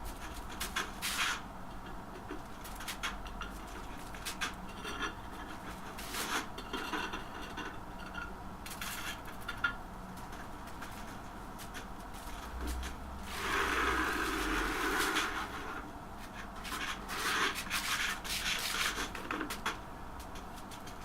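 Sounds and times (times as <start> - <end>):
hand work scrapes and clicks: 0.1 - 1.5, 2.2 - 9.8, 11.6 - 21.0.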